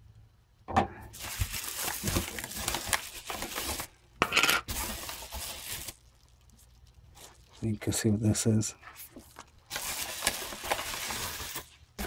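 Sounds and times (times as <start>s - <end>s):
packaging crinkling and rustling: 1.1s - 4.0s, 4.6s - 12.0s.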